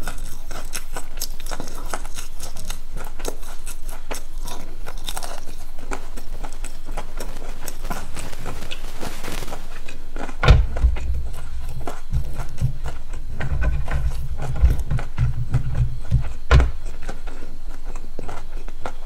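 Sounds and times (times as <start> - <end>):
chewing crispy food: 0.0 - 19.0.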